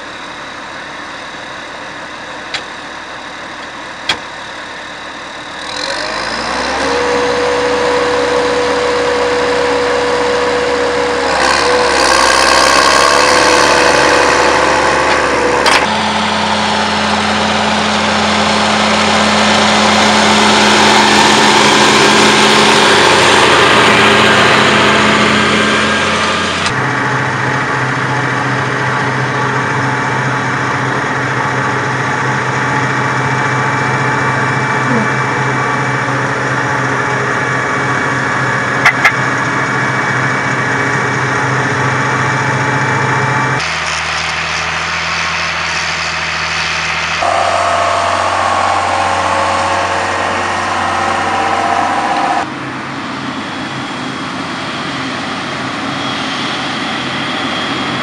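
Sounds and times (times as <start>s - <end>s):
tractor engine running: 0.0s - 55.6s.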